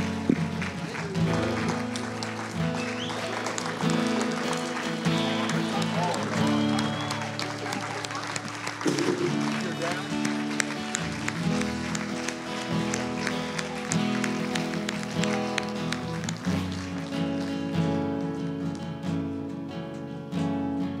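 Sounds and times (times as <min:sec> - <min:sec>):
crowd clapping along: 0:00.0 - 0:20.1
guitar playing chords: 0:00.0 - 0:21.0.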